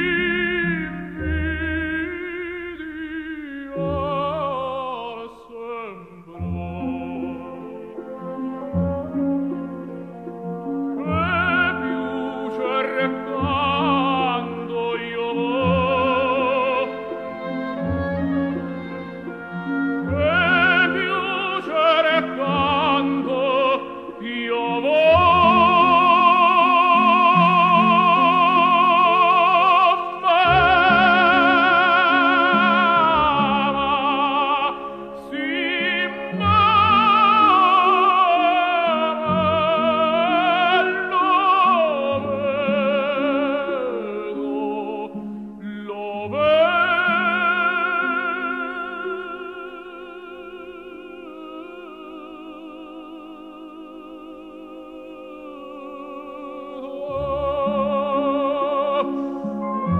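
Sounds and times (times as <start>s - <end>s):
musical accompaniment: 0.0s - 59.9s
operatic singing: 0.0s - 59.9s.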